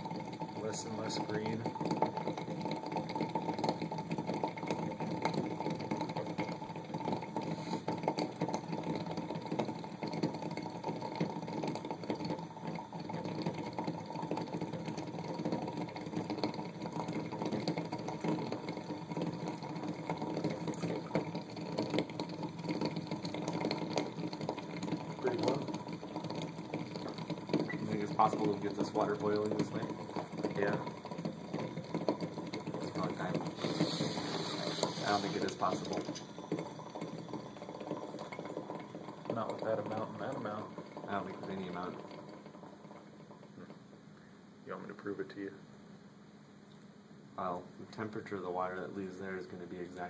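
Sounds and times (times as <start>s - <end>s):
water boiling and bubbling: 0.0s - 45.5s, 46.6s - 50.0s.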